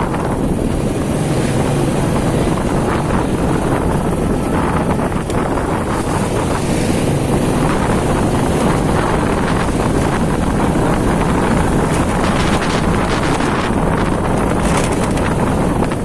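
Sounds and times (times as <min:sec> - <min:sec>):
motorcycle engine: 0:00.0 - 0:16.0
wind rushing over microphone: 0:00.0 - 0:16.0.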